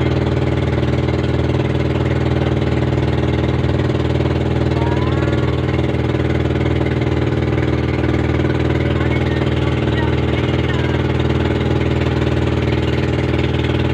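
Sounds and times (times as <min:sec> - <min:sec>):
boat engine droning: 0:00.0 - 0:13.9.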